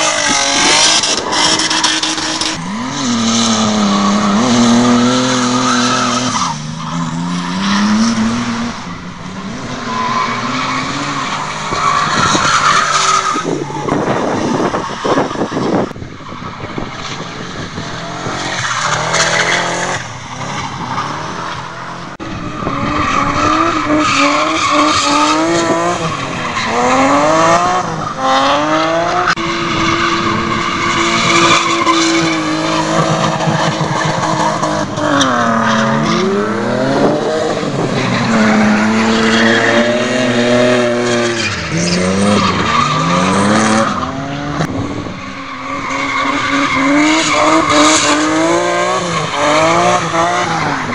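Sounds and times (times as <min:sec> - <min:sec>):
car engines revving: 0:00.0 - 0:50.9
tyres skidding and squealing: 0:00.0 - 0:50.9.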